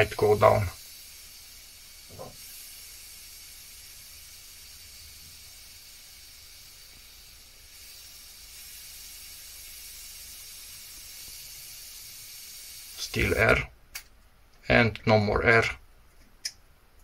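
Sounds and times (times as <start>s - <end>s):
air hissing from valve: 0.0s - 13.7s.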